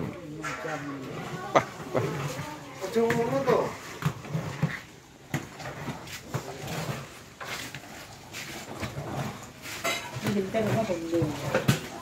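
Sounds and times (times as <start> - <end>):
wooden paddles scraping in a wok: 0.0 - 12.0.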